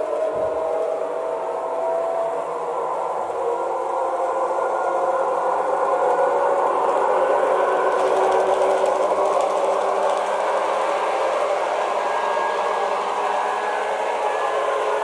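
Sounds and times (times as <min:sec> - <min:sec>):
electric train whir from speaker: 0:00.0 - 0:15.0.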